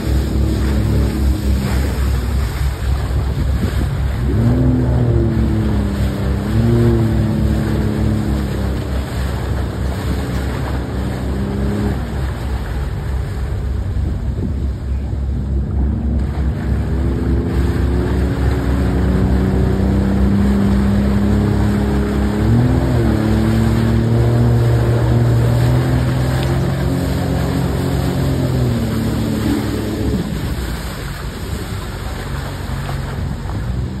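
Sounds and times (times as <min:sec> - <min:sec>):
motorboat engine droning: 0:00.0 - 0:34.0
water rushing and spraying: 0:00.0 - 0:34.0.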